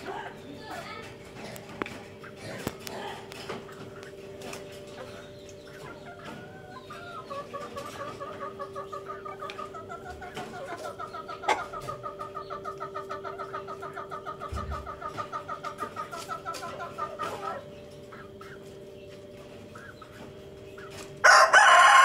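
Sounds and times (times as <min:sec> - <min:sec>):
chicken clucking: 0:00.0 - 0:22.0.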